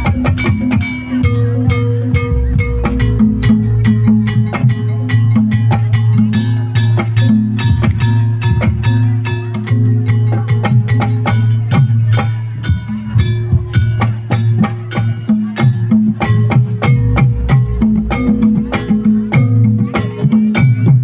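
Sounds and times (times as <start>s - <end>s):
hand drum strokes: 0.0s - 21.0s
metallophones striking ringing notes: 0.0s - 21.0s.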